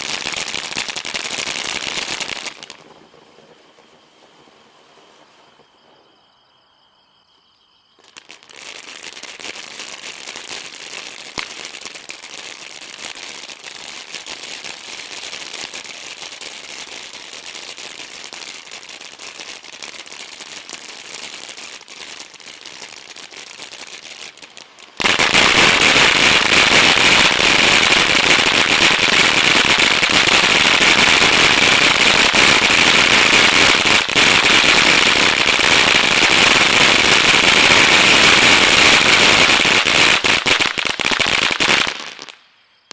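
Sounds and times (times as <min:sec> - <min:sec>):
firework fountain hissing: 0:00.0 - 0:06.2, 0:08.0 - 0:42.7.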